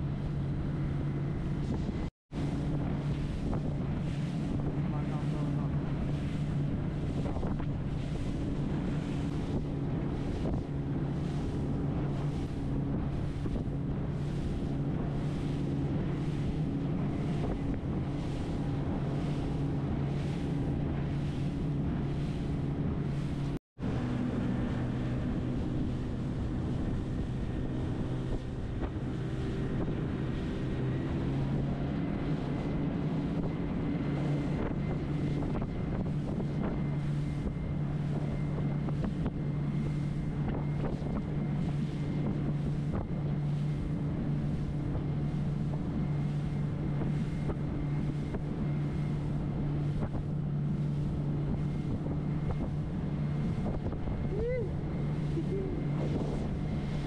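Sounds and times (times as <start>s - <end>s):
motorboat engine running: 0.0s - 57.0s
water slapping against hull: 0.0s - 57.0s
wind buffeting microphone: 0.0s - 57.0s.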